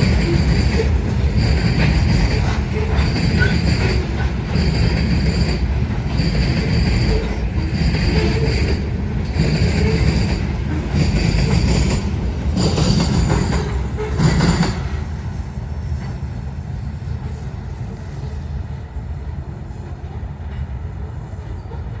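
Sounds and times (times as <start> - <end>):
train cars rumbling past: 0.0 - 22.0
train wheel squeal: 0.0 - 22.0.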